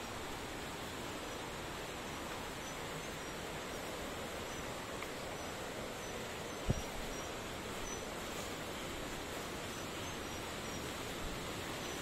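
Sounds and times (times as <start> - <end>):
forest ambience hiss: 0.0 - 12.0
insects chirping: 0.0 - 12.0.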